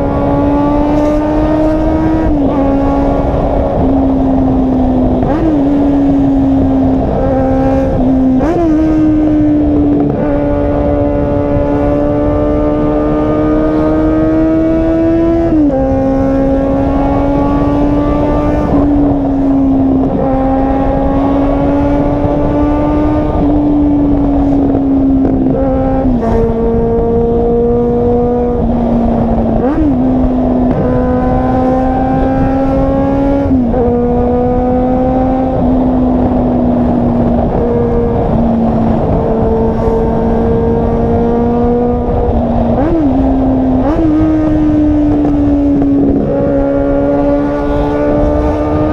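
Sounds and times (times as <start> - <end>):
car engine revving high: 0.0 - 48.9.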